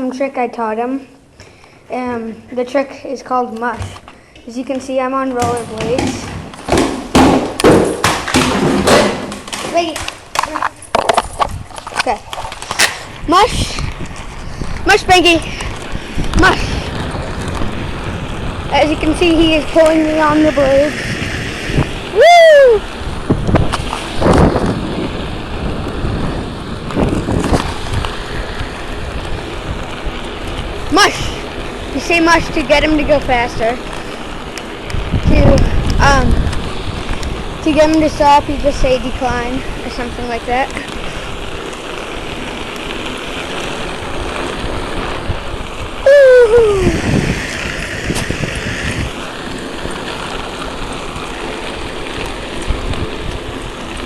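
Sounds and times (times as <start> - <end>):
skate wheels rolling on pavement: 0.0 - 54.0
wind buffeting microphone: 1.9 - 54.0.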